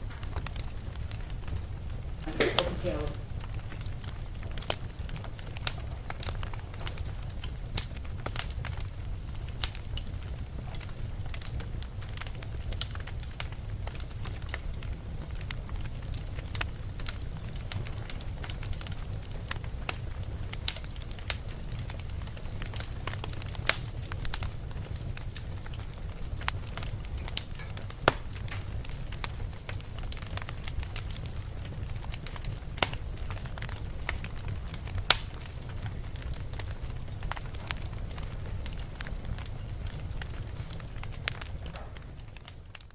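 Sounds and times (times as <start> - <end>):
fire crackling and popping: 0.0 - 42.9
fire flames rumbling: 0.0 - 42.9.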